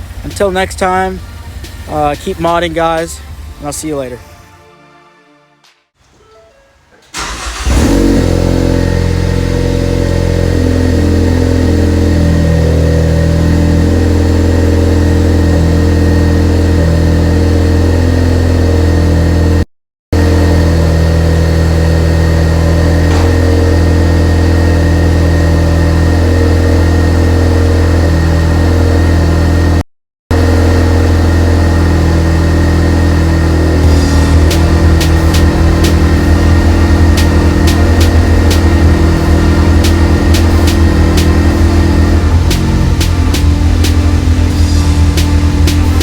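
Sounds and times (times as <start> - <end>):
car engine starting and idling: 0.0 - 4.2, 7.0 - 19.6, 20.2 - 46.0.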